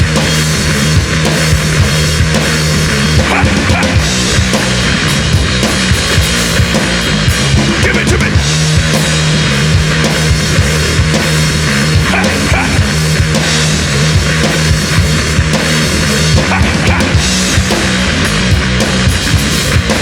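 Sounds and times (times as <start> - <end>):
driving drum kit: 0.0 - 20.0
heavy rock band playing: 0.0 - 20.0.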